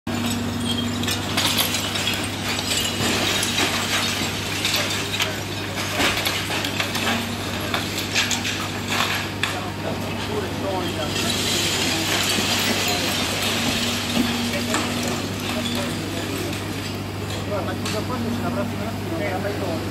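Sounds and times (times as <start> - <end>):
concrete cracking and clattering: 0.1 - 18.6
excavator engine hum: 0.1 - 19.9.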